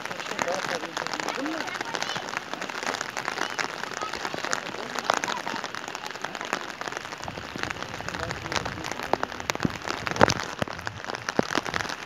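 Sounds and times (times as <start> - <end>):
rain pattering: 0.0 - 12.0
sharp raindrop hits: 0.0 - 12.0.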